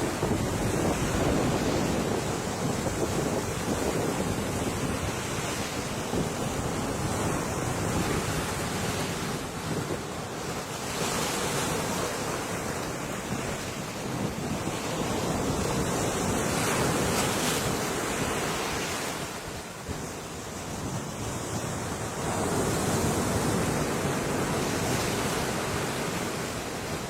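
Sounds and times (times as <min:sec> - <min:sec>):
ocean waves breaking: 0:00.0 - 0:27.0.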